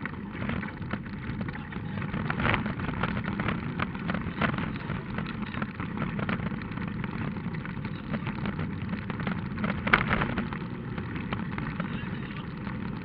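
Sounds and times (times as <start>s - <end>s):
car engine and road drone: 0.0s - 13.0s
small clicks and rattles: 0.0s - 13.0s.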